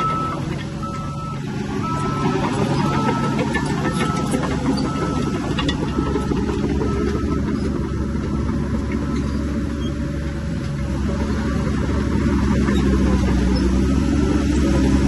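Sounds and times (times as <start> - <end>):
heavy machinery engine drone: 0.0 - 15.0.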